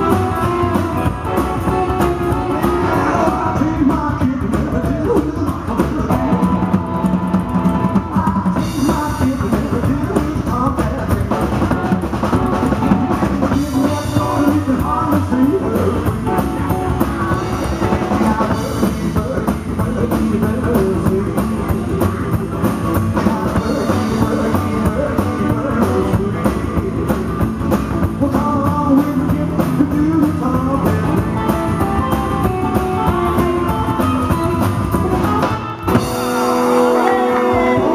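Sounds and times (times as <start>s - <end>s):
drum kit: 0.0s - 37.9s
electric guitar: 0.0s - 37.9s
man singing: 0.0s - 37.9s
upright double bass: 0.0s - 37.9s.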